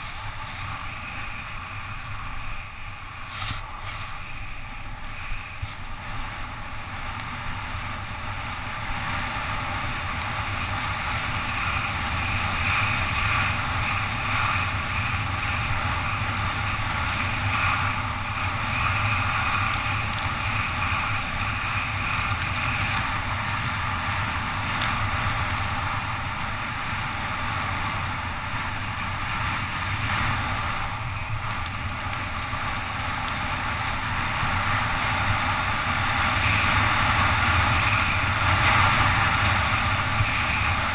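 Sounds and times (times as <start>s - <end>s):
tyre hiss on wet asphalt: 0.0s - 40.9s
wind rushing over camera: 0.0s - 40.9s.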